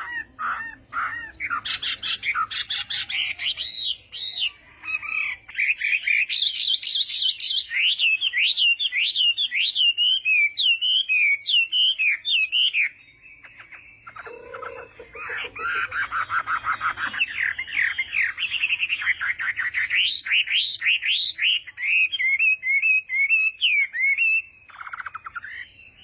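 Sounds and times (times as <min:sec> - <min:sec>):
bird singing varied song: 0:00.0 - 0:26.0.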